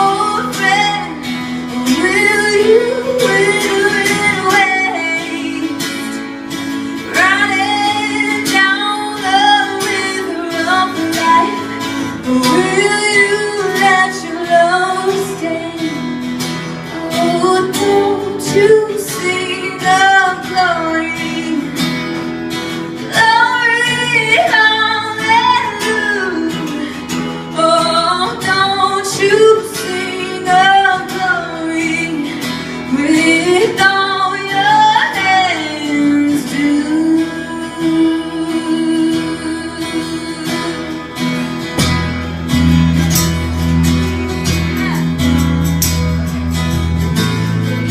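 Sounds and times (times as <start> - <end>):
person singing: 0.0 - 21.8, 23.0 - 41.6
guitar accompaniment: 0.0 - 47.9.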